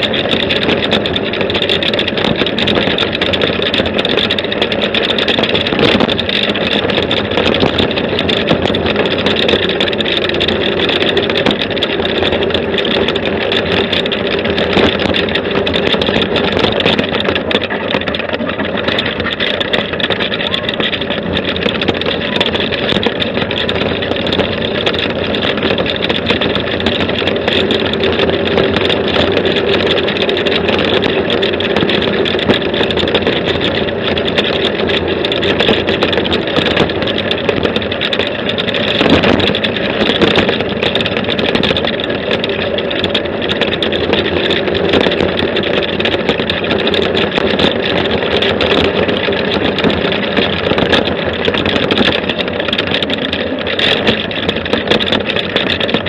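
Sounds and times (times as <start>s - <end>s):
buggy engine running: 0.0s - 56.0s.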